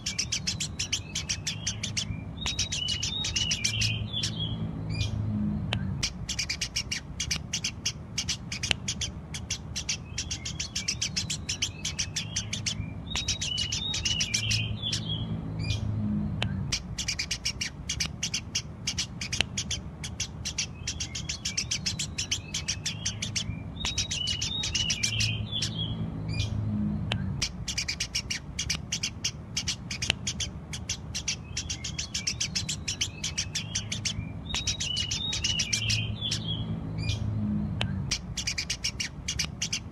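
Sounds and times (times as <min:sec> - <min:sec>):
sparrows chirping: 0:00.0 - 0:39.9
steady low hum: 0:00.0 - 0:39.9.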